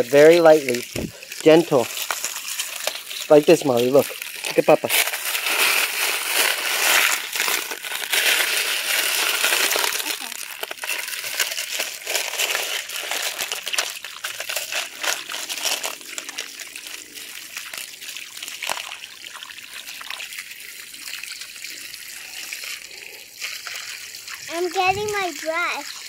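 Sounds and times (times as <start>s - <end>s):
hose water splashing on rocks: 0.0s - 26.0s.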